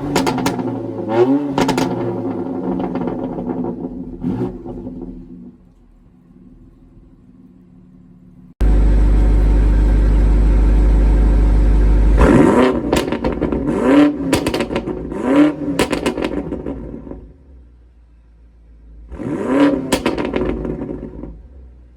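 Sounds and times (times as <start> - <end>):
car engine idling and revving: 0.0 - 21.9
exhaust crackles: 0.0 - 21.9.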